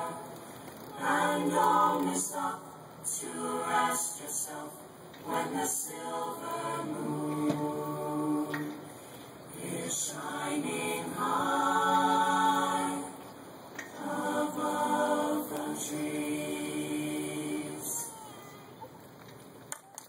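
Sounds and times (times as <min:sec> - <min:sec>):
choir singing held chords: 0:00.0 - 0:18.2.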